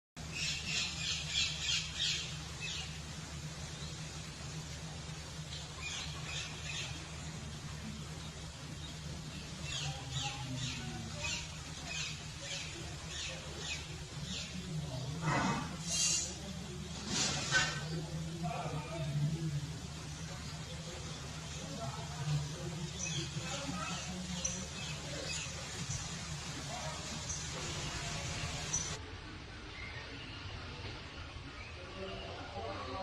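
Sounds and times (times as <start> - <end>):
steady low hum: 0.2 - 32.7.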